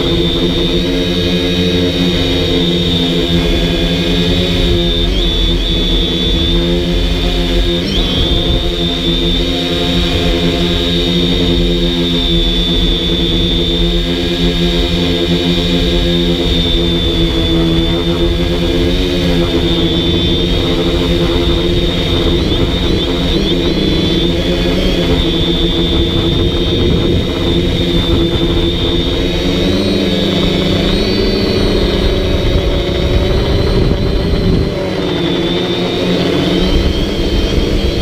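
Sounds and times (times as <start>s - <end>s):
quadcopter propellers whirring: 0.0s - 38.0s.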